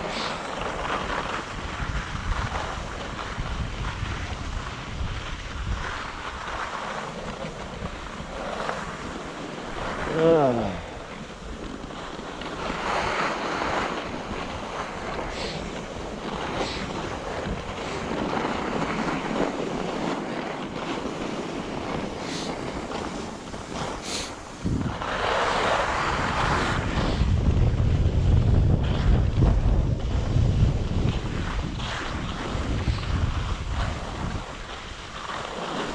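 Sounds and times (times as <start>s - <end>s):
skis scraping over snow: 0.0s - 35.9s
wind rumble on microphone: 0.0s - 35.9s.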